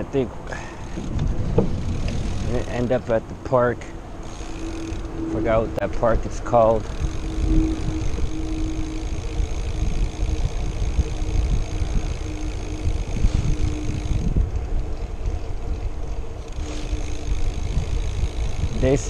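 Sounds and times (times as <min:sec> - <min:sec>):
wind buffeting microphone: 0:00.0 - 0:19.0
steady hum: 0:00.2 - 0:19.0
bike tyres rolling on asphalt: 0:00.5 - 0:05.7, 0:06.4 - 0:19.0.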